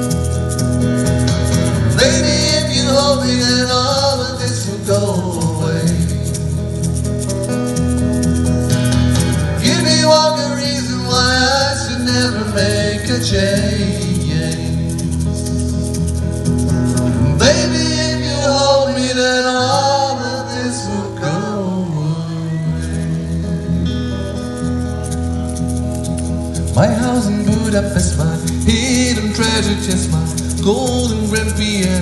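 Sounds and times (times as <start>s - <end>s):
acoustic guitar playing: 0.0s - 32.0s
sliding melody line: 0.0s - 32.0s.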